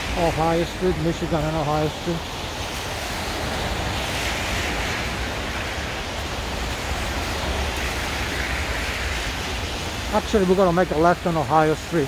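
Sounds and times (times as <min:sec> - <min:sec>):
low city street rumble: 0:00.0 - 0:12.0
street hiss: 0:00.0 - 0:12.0.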